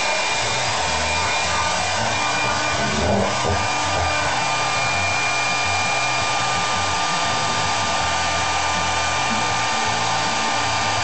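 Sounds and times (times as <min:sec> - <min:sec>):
hairdryer running: 0:00.0 - 0:11.0.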